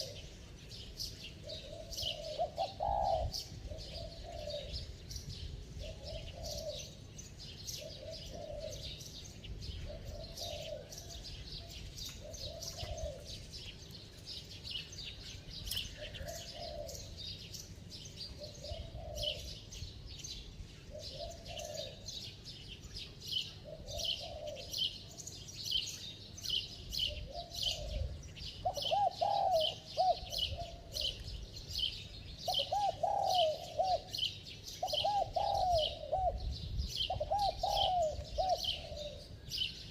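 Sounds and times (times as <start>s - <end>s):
dove cooing: 0.0s - 5.1s, 5.8s - 13.7s, 15.6s - 19.8s, 20.8s - 22.4s, 23.4s - 25.8s, 26.5s - 31.3s, 32.4s - 39.8s
small birds chirping: 0.0s - 39.9s.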